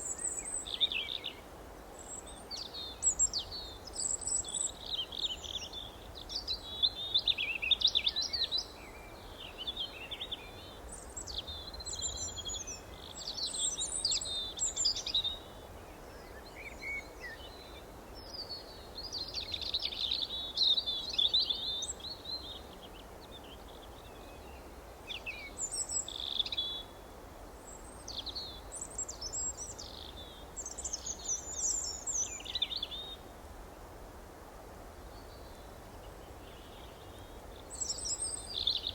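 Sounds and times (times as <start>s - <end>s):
low background hiss: 0.0s - 38.9s.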